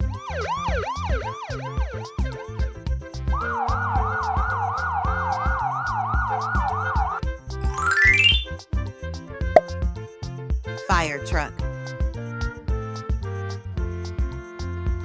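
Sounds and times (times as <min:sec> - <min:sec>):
children's music with steady beat: 0:00.0 - 0:15.0.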